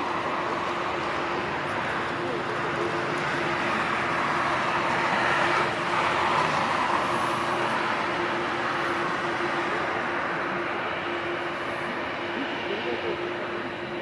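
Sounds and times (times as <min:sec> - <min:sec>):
jet engines on takeoff: 0:00.0 - 0:14.0.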